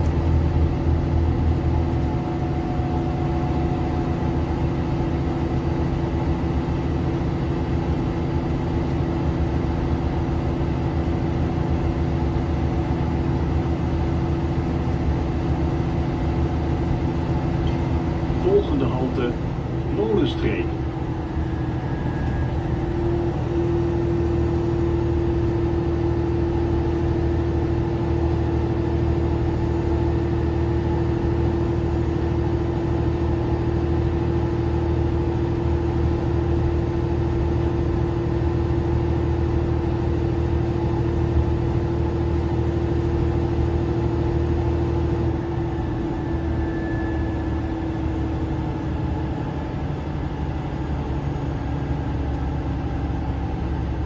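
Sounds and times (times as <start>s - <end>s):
bus engine and road drone: 0.0s - 54.0s
constant whine: 0.0s - 54.0s.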